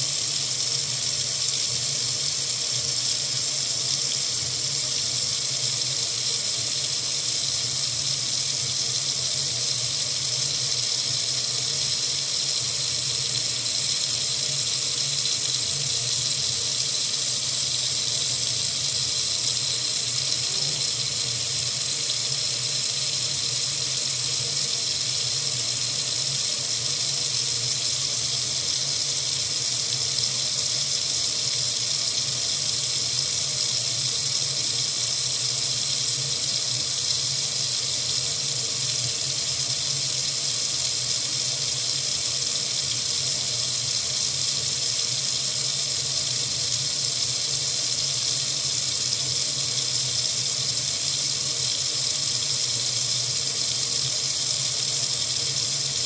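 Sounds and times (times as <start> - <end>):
faucet water running into sink: 0.0 - 56.0.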